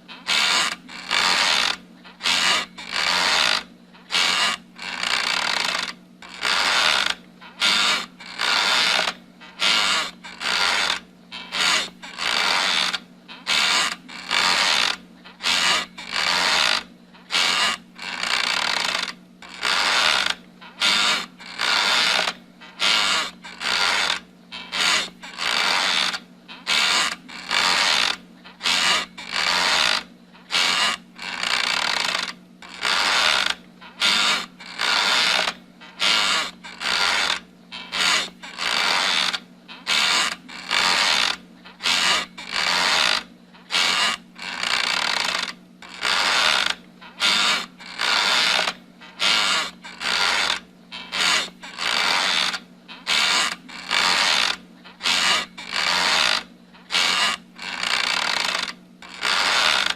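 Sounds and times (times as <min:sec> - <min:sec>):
rocking chair creaking: 0:00.0 - 0:59.9.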